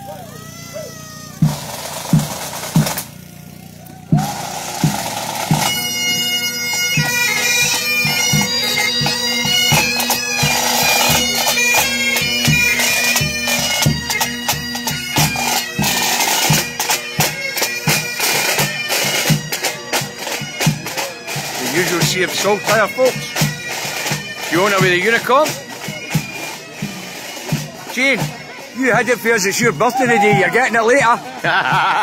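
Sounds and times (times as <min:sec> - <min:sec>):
bagpipes playing with drones: 0:00.0 - 0:32.0
marching drums: 0:00.0 - 0:32.0.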